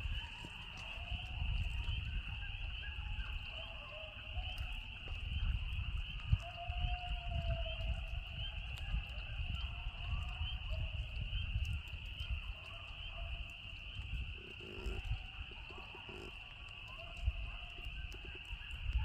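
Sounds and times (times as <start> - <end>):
coyotes howling and yipping: 0.0 - 19.0
frogs peeping: 0.0 - 19.0.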